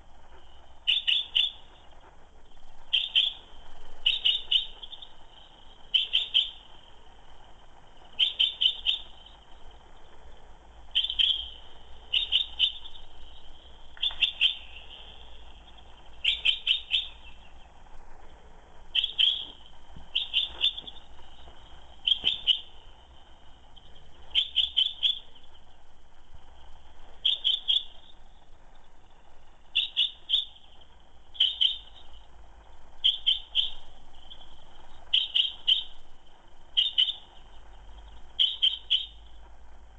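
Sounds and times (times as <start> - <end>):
chaffinch calling: 0.0 - 39.4.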